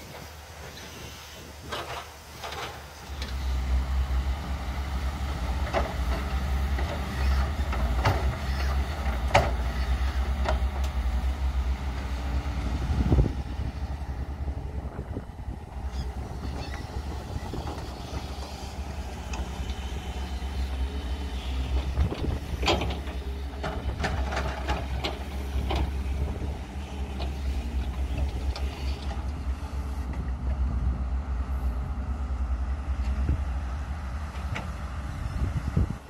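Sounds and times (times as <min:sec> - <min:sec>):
excavator diesel engine: 0:00.0 - 0:36.0.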